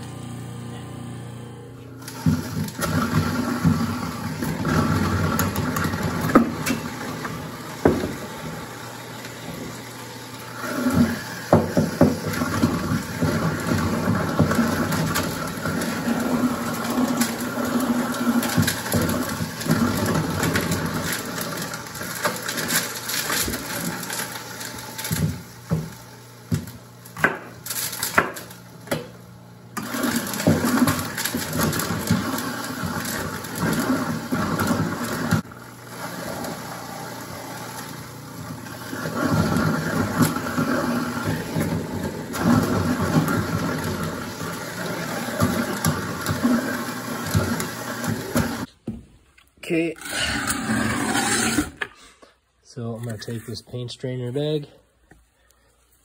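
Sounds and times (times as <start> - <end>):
garbage disposal motor hum: 0.0 - 55.8
apples grinding in disposal: 2.0 - 54.6.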